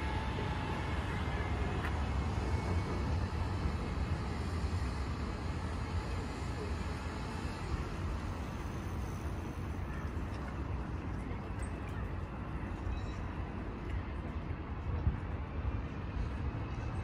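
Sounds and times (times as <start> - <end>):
passing train rumble: 0.0 - 17.0.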